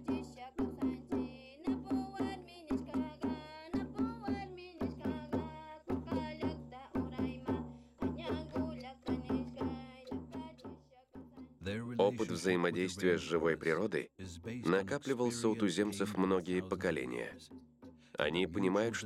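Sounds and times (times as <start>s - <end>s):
hand drum beat: 0.0s - 13.8s, 14.7s - 19.0s.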